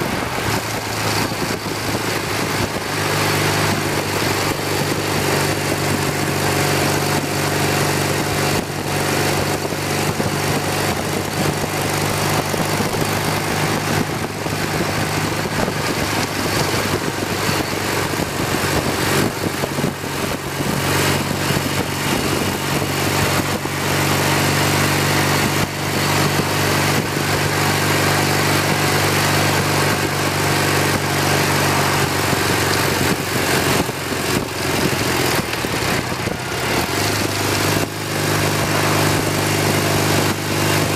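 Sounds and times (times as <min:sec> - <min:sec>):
motorcycle engine running: 0:00.0 - 0:40.9
wind rush over microphone: 0:00.0 - 0:40.9.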